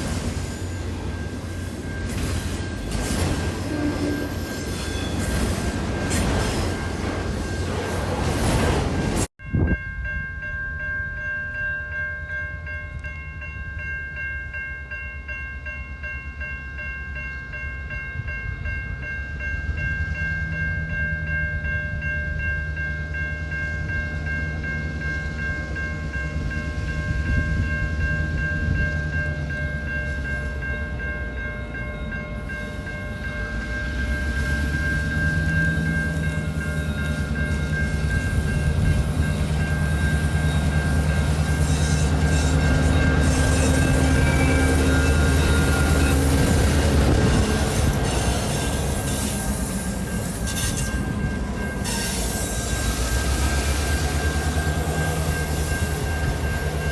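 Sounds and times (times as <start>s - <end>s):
train rumbling: 0.0s - 11.5s, 17.5s - 56.9s
high ringing tones: 9.3s - 56.9s.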